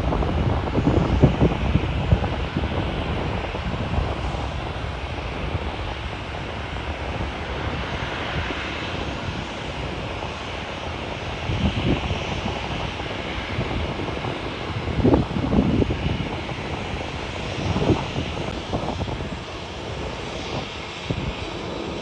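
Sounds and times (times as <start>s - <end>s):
jet engine rushing: 0.0s - 22.0s
wind buffeting microphone: 0.0s - 22.0s.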